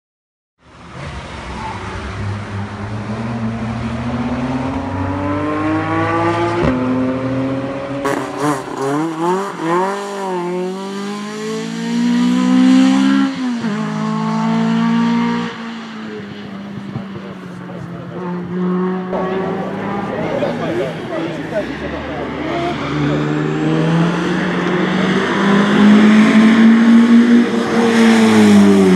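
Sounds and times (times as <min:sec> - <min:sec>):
rally car engine revving: 0:00.9 - 0:28.9.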